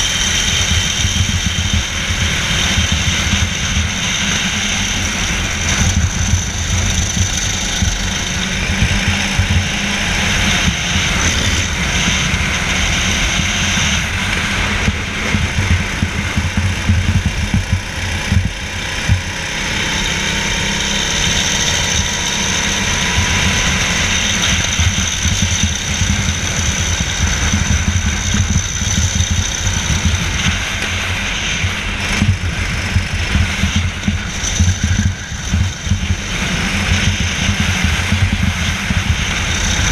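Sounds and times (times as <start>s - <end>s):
kart engine running hard: 0.0s - 39.9s
wind rumble on microphone: 0.0s - 39.9s.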